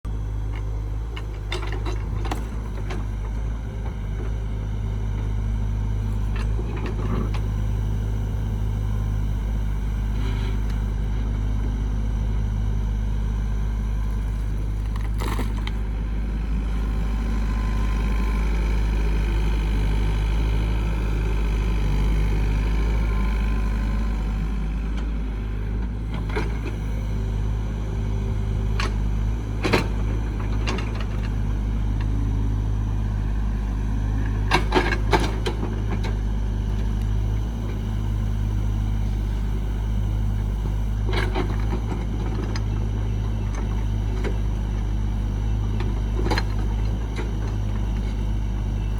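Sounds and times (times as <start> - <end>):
construction vehicle engine rumbling: 0.1 - 48.9.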